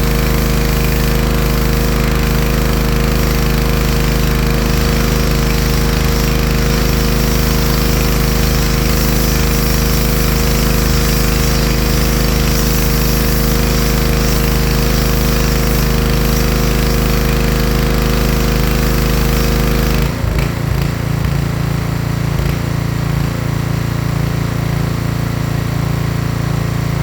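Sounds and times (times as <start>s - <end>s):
pressure washer motor drone: 0.0s - 27.0s
water jet spraying paving: 0.0s - 27.0s.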